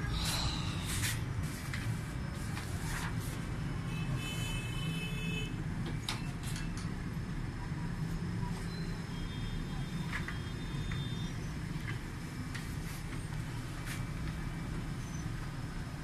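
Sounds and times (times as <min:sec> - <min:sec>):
scanner-copier humming: 0:00.0 - 0:16.0.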